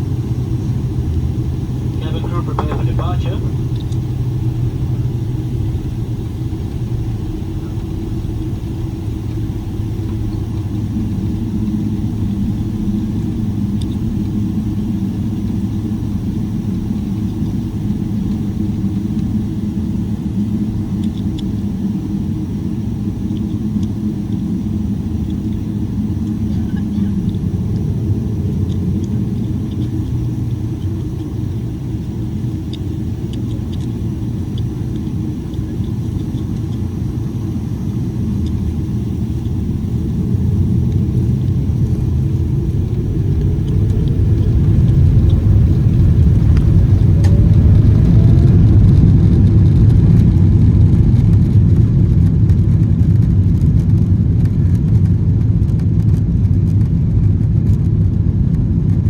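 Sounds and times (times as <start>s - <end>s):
jet engine cabin rumble: 0.0s - 59.0s
jet engine whine: 0.0s - 59.0s.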